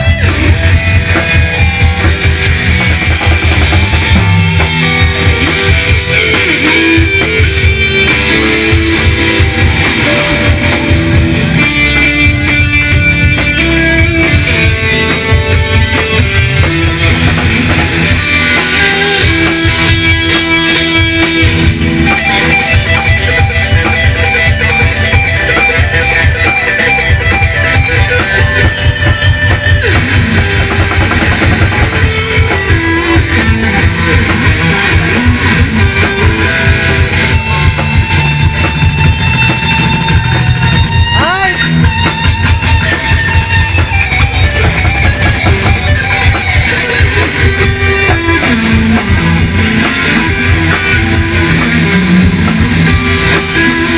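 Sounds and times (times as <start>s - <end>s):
electric guitar bending notes: 0.0s - 53.9s
live rock band playing: 0.0s - 53.9s.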